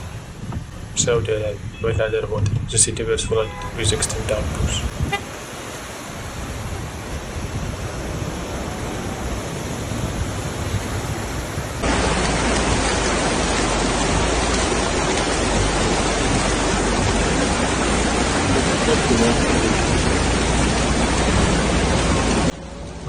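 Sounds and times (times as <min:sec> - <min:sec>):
rushing flood water: 0:00.0 - 0:23.0.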